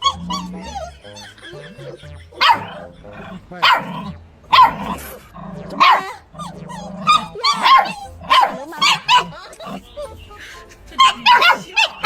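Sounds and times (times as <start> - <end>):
puppy barking: 0.0 - 1.7, 2.4 - 9.8, 11.0 - 12.0.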